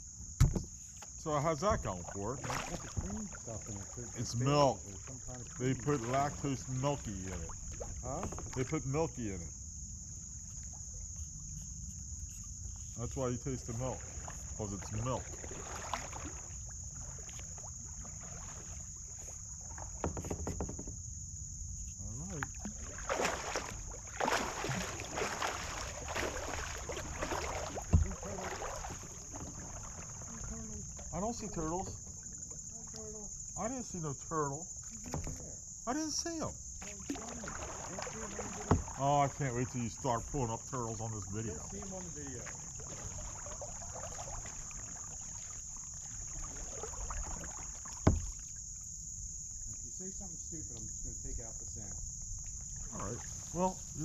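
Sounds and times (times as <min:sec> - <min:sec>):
high insect drone: 0:00.0 - 0:54.0
paddle strokes splashing and dripping: 0:00.2 - 0:21.2, 0:21.8 - 0:54.0.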